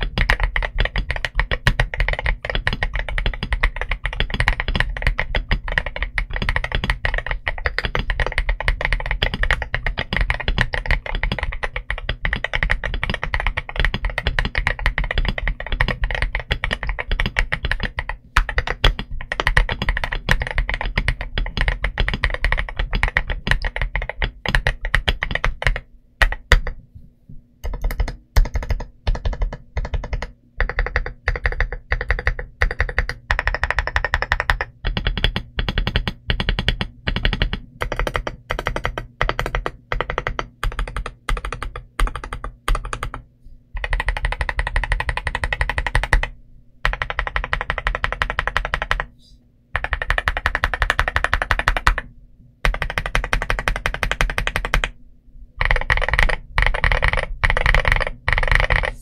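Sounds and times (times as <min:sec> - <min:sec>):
mechanical keyboard typing: 0:00.0 - 0:26.8, 0:27.6 - 0:43.2, 0:43.8 - 0:49.1, 0:49.8 - 0:55.0, 0:55.6 - 0:59.0.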